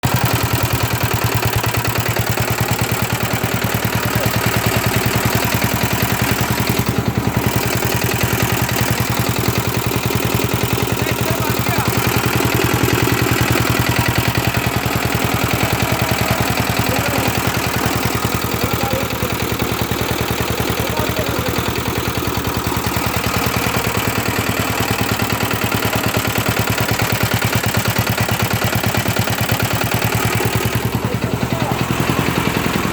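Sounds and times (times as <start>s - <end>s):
auto-rickshaw engine running: 0.0s - 32.9s.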